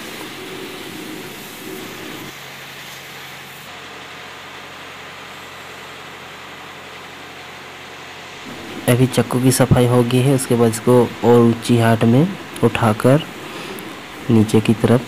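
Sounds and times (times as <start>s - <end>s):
car wash machine hum: 0.0s - 15.0s
hiss: 0.0s - 15.0s.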